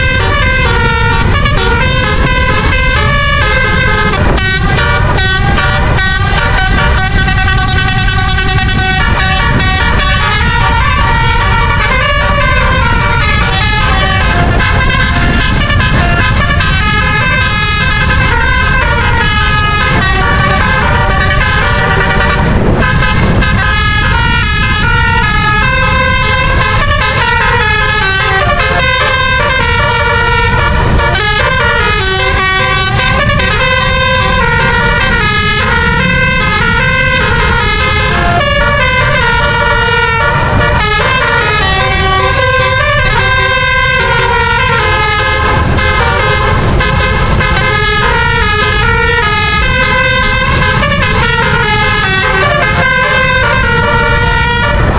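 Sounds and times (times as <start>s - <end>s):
musical air horn melody: 0.0s - 54.9s.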